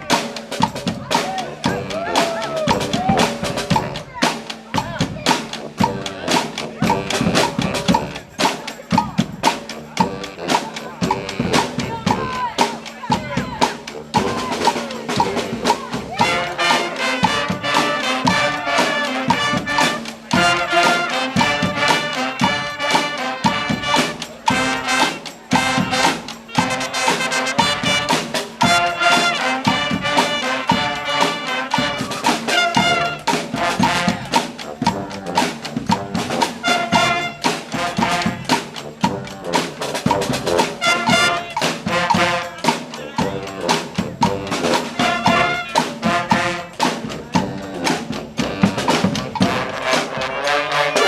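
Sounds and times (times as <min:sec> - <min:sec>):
horns playing together: 0:00.0 - 0:51.0
steady drum beat: 0:00.0 - 0:51.0.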